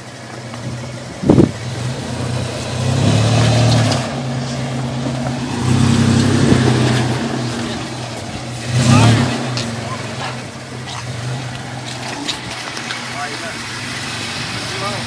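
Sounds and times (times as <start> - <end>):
truck engine revving under load: 0.0 - 15.0.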